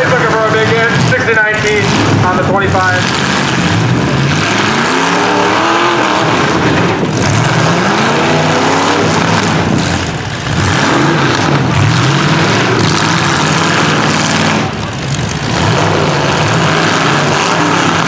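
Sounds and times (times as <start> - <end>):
vehicle engines revving: 0.0 - 18.0.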